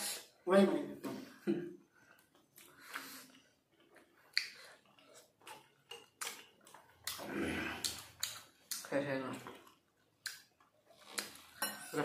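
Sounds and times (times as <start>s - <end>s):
soft chewing and lip smacks: 2.0s - 11.6s.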